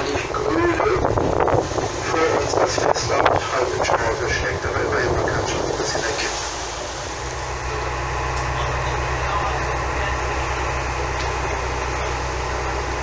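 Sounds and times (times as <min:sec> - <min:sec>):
motor boat engine humming: 0:00.0 - 0:13.0
water rushing and splashing: 0:00.0 - 0:13.0
wind: 0:00.0 - 0:13.0.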